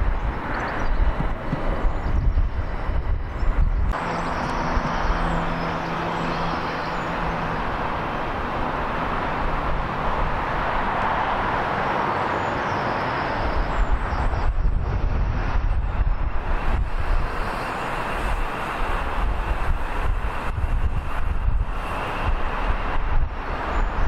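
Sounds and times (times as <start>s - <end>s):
wind buffeting microphone: 0.0s - 11.8s, 13.3s - 24.0s.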